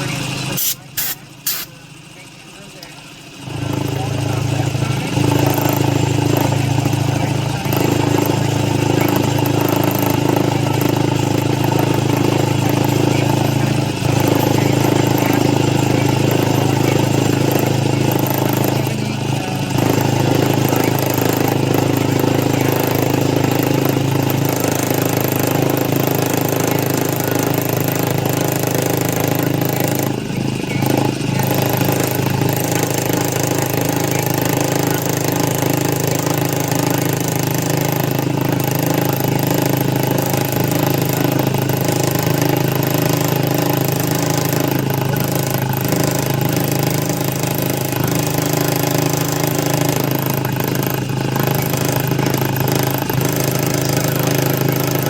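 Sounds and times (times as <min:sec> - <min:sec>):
machine motor hum: 0:00.0 - 0:55.0.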